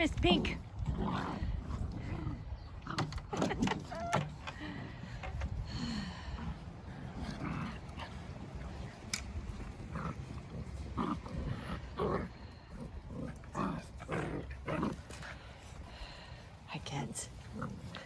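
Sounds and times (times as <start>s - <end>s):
puppies growling and grunting: 0.0s - 16.3s, 17.3s - 18.0s.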